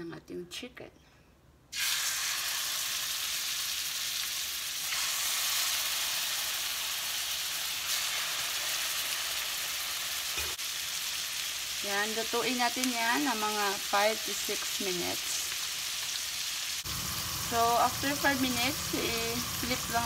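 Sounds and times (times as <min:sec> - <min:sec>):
chicken sizzling in a pan: 0:01.7 - 0:20.0.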